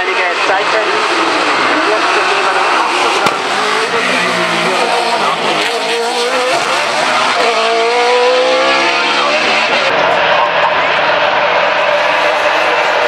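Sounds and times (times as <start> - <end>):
race car engine accelerating: 0.2 - 13.0.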